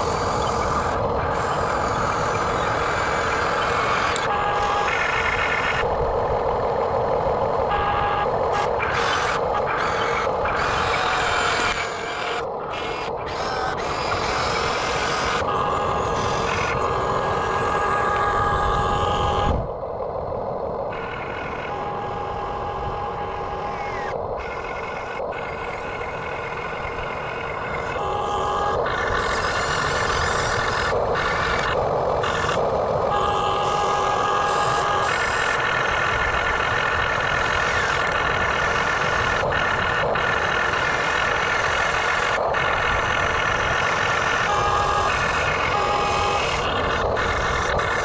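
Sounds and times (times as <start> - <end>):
toy excavator mechanical noise: 0.0 - 19.7, 20.9 - 48.0.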